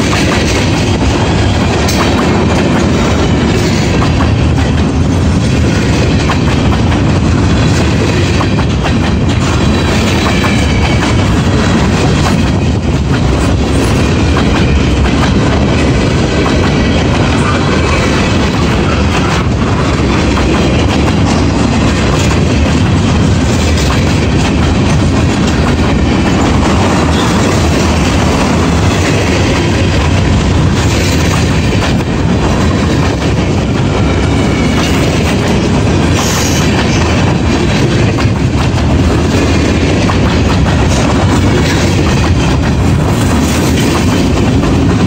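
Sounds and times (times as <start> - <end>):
train wheels roaring: 0.0 - 45.0
wheels clacking over rail joints: 0.0 - 45.0.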